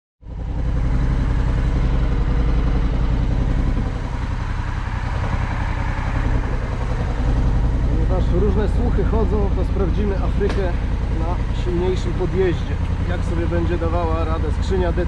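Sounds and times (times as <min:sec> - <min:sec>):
motorcycle engine idling: 0:00.2 - 0:15.0.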